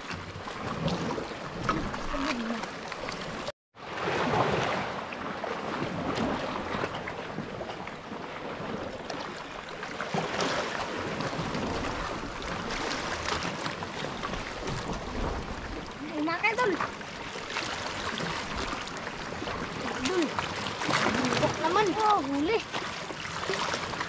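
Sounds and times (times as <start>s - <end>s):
waves washing against rocks: 0.0s - 24.0s.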